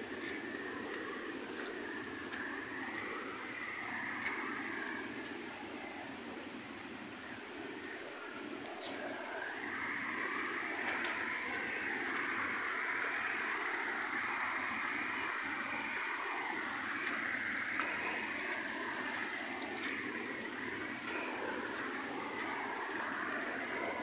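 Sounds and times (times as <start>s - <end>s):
rainwater runoff rushing: 0.0s - 24.0s.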